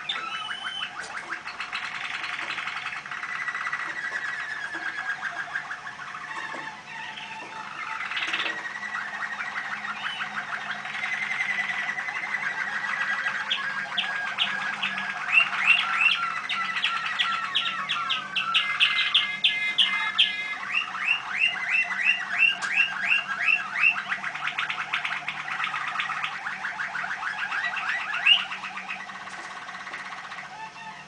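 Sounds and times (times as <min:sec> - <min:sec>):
canary singing trills: 0:00.0 - 0:31.0.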